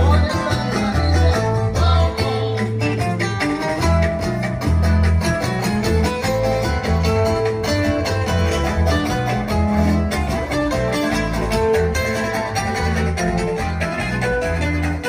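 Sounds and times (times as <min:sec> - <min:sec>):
instrumental band music with strong bass: 0:00.0 - 0:15.0.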